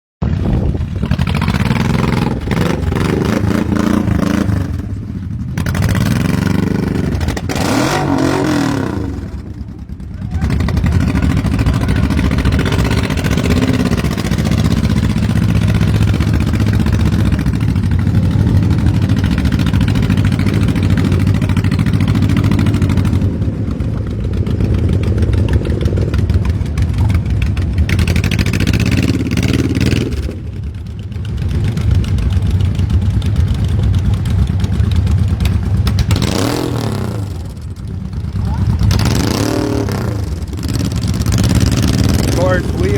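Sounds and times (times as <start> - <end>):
motorcycle engines revving: 0.2 - 42.9
motorcycle riding past: 0.2 - 42.9.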